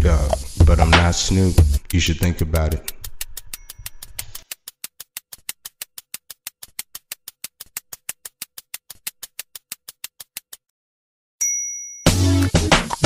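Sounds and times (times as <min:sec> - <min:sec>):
rapid sharp clicks: 0:00.1 - 0:10.7.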